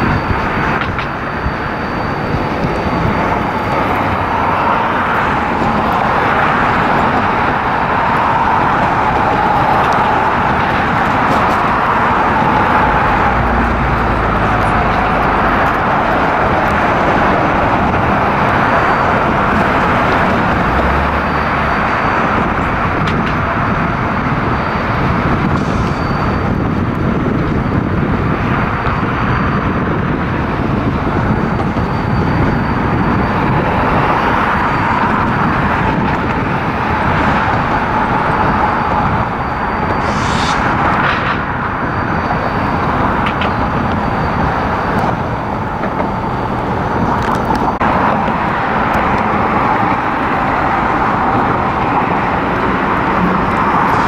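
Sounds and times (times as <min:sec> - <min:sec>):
vehicle rumble: 0:00.0 - 0:54.0.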